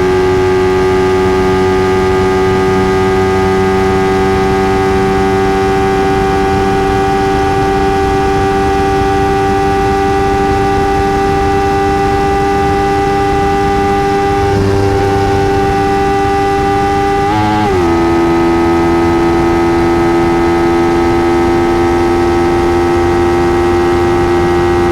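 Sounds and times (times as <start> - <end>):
motorcycle engine at high pitch: 0.0 - 24.9.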